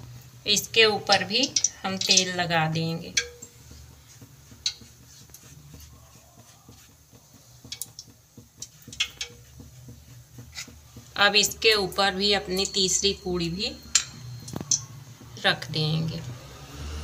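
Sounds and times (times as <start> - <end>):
brush dabbing on dough: 0.0 - 16.6.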